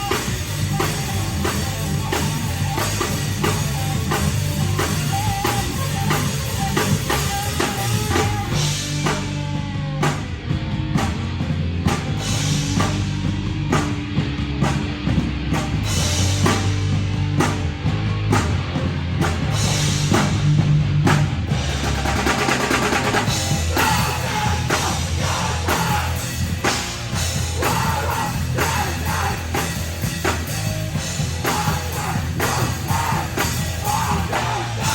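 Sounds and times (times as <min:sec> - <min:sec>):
drum kit beat: 0:00.0 - 0:34.9
electric guitar: 0:00.0 - 0:34.9.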